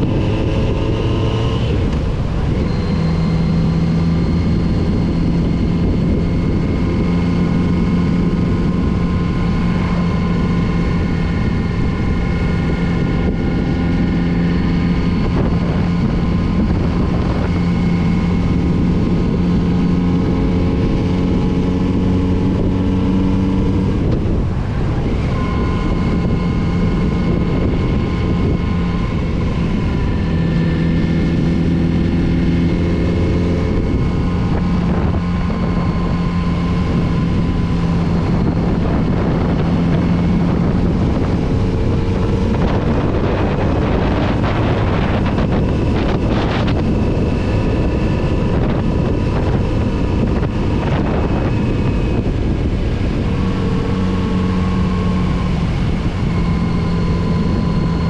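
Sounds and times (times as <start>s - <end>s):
motorcycle engine with gear changes: 0.0s - 58.0s
road and wind noise: 0.0s - 58.0s.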